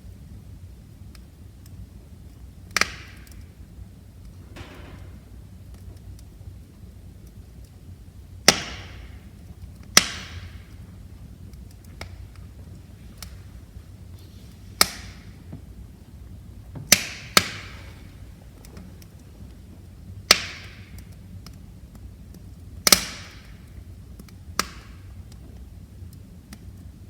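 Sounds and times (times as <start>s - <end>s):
wood fire crackling: 0.0s - 27.0s
loud fire pops: 0.9s - 27.0s.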